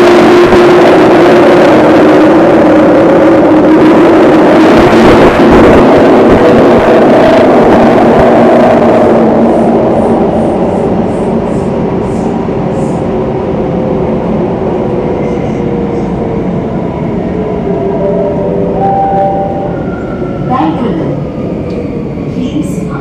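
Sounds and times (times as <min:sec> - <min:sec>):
train rumbling in tunnel: 0:00.0 - 0:23.0.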